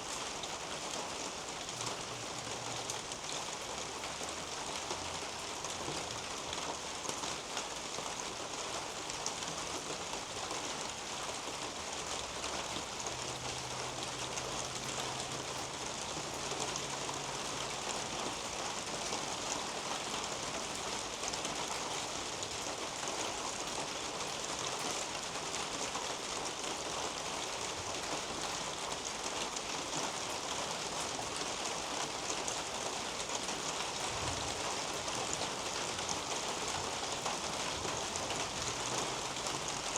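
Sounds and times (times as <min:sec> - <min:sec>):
rain pattering on foliage: 0:00.0 - 0:39.9.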